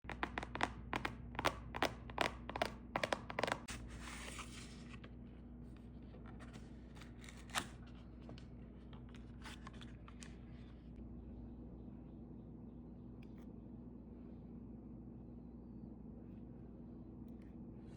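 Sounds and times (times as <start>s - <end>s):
ceiling fan hum: 0.2s - 17.9s.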